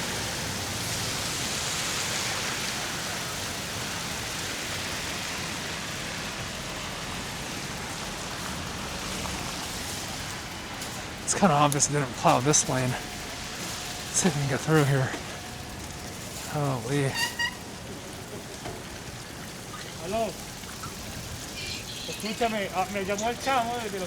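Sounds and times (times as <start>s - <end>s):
bicycle tyres hissing on wet street: 0.0s - 24.0s.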